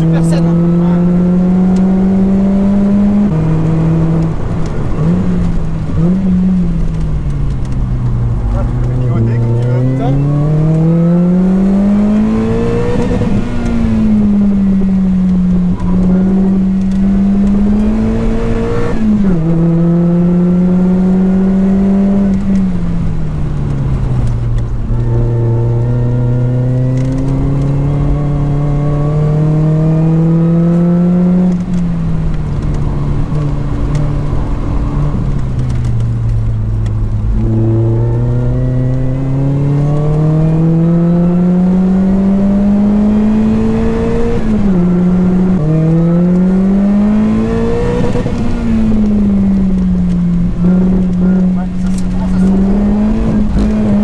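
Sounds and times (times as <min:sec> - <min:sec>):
car engine revving and shifting: 0:00.0 - 0:54.0.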